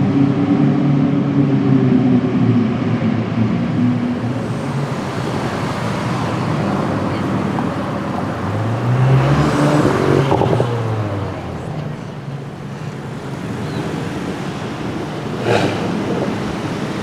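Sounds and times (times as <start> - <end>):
another engine: 0.0 - 17.0
street traffic noise: 0.0 - 17.0
car engine running: 0.4 - 17.0.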